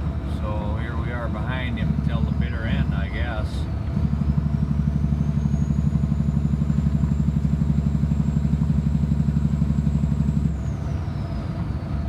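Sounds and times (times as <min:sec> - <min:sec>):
engine pulsing low drone: 0:00.0 - 0:12.0.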